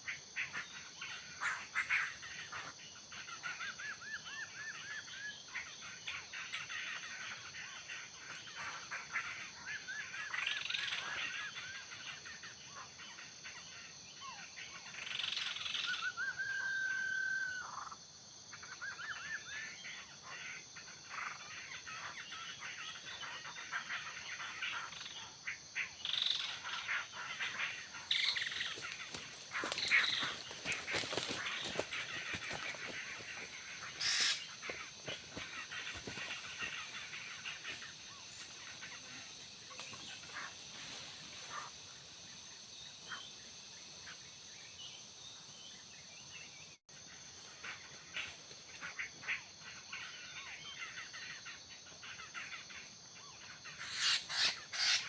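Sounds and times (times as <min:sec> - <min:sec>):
birds calling: 0:00.0 - 0:55.0
insects droning: 0:00.0 - 0:55.0.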